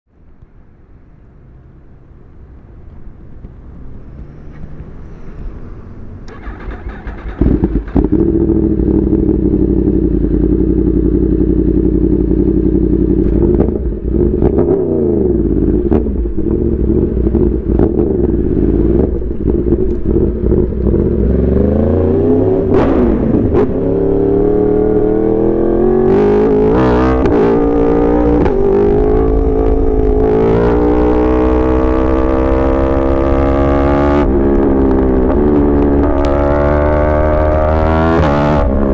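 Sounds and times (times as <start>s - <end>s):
motorcycle engine running: 6.4s - 37.7s.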